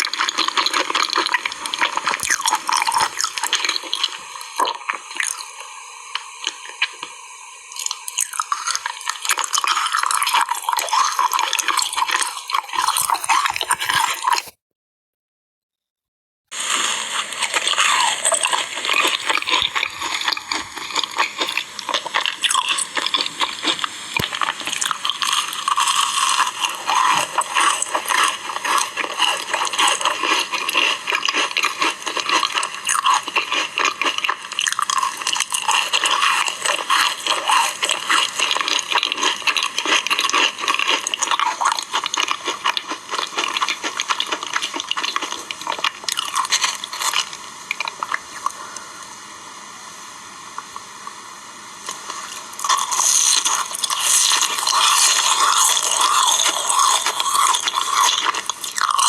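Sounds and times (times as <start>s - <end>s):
wet squishing and mouth smacking: 0.0s - 5.4s, 7.8s - 14.6s, 17.4s - 48.9s, 51.9s - 59.0s
crisp crunching and chewing: 0.0s - 7.1s, 7.8s - 14.6s, 16.6s - 48.9s, 51.8s - 59.0s.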